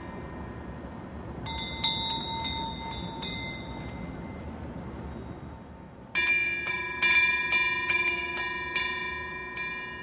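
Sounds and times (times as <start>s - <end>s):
wind bell ringing: 0.0s - 5.6s, 6.2s - 10.0s.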